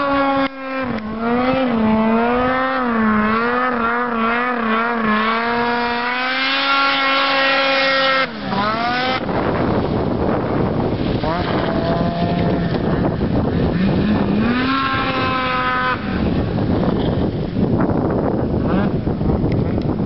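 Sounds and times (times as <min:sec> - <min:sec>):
snowmobile engine revving high: 0:00.0 - 0:19.8.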